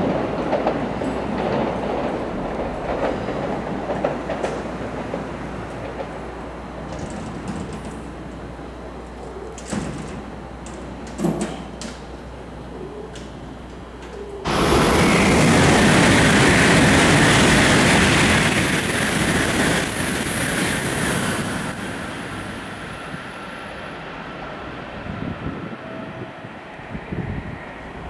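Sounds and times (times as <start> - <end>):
high-speed train rushing past: 0.0 - 9.0, 13.3 - 28.0.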